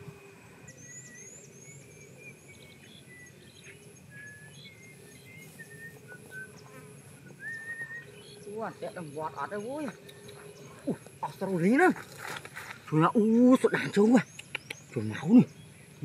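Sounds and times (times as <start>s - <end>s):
repeating insect call: 0.0s - 16.0s
small birds chirping: 0.0s - 16.0s.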